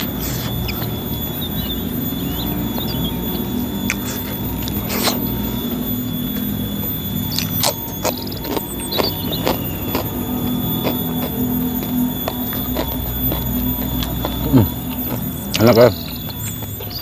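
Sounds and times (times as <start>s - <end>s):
person chewing: 0.0s - 5.6s, 7.3s - 17.0s
faint high squeaky chirps: 0.0s - 17.0s
low hum: 0.0s - 17.0s
sucking fingers: 0.0s - 17.0s.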